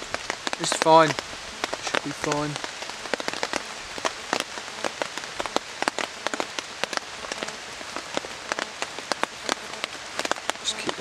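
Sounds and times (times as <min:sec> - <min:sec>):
rain on a tarp: 0:00.0 - 0:11.0.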